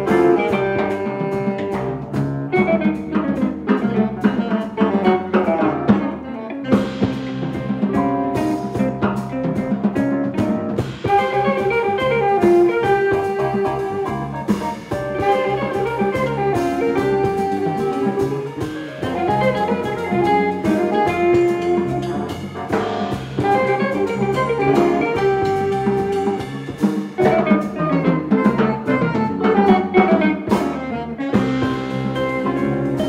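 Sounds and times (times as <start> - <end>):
jazz quintet playing blues: 0.0 - 33.0.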